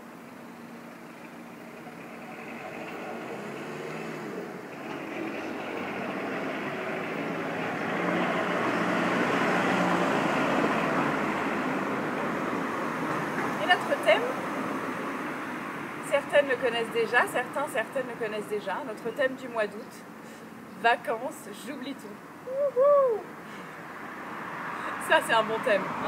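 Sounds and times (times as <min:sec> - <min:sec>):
vehicle passing on road: 0:00.5 - 0:18.9, 0:22.3 - 0:26.0.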